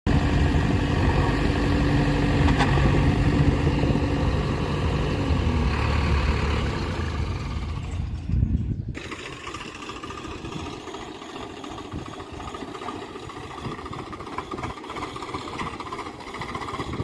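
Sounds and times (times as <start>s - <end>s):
diesel engine running: 0.1s - 17.0s.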